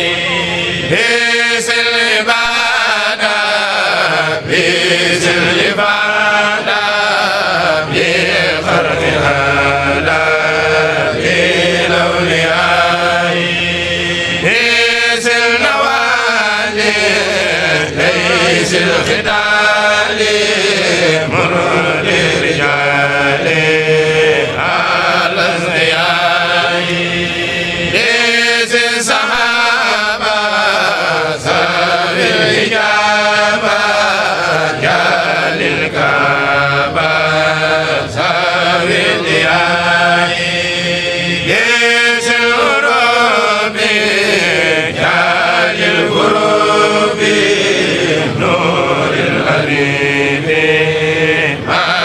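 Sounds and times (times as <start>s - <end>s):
choir chanting religious verses: 0.0s - 52.0s.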